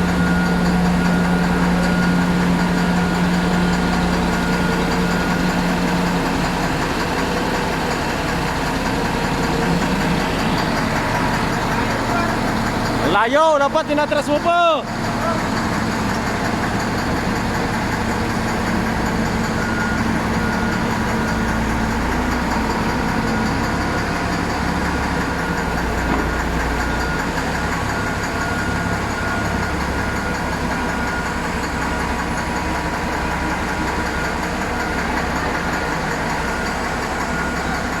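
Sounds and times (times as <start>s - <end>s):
diesel engine rumbling: 0.0s - 38.0s
engine knocking: 0.0s - 38.0s.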